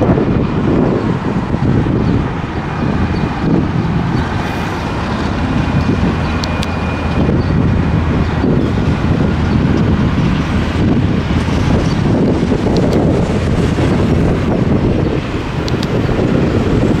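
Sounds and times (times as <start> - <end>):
diesel locomotive engines running: 0.0 - 17.0
wind buffeting microphone: 0.0 - 17.0.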